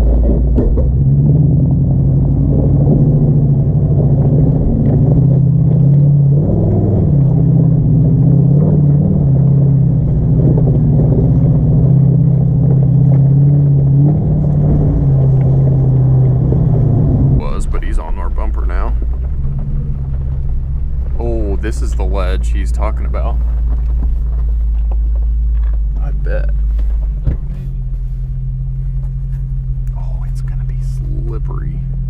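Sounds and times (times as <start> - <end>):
engine running at low speed: 0.0 - 32.0.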